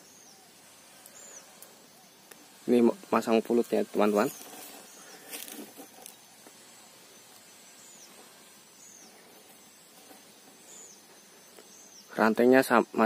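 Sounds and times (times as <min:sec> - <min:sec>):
bird chirping: 0:00.0 - 0:13.0
insect drone: 0:00.0 - 0:13.0.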